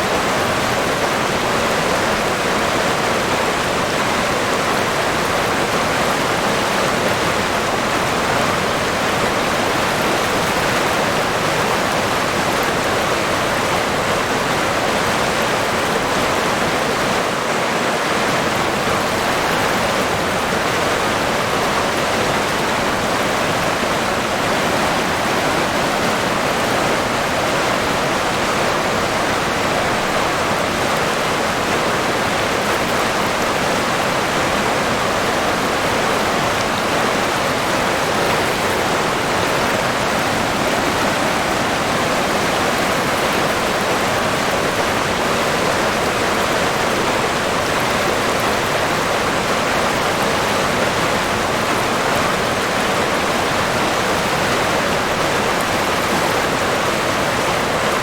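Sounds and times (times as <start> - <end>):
river water rushing and splashing: 0.0 - 58.0.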